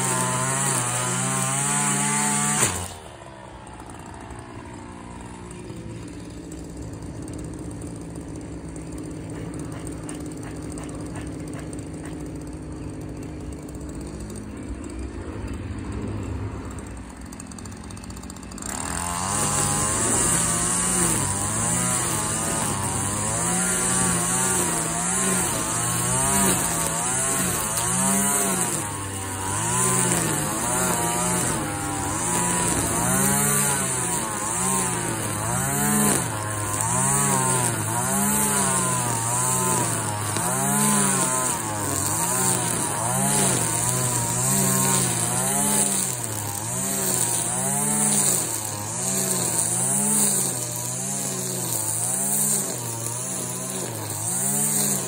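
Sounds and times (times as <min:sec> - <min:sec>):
string trimmer engine revving: 0:00.0 - 0:55.0
trimmer line cutting grass: 0:00.0 - 0:55.0.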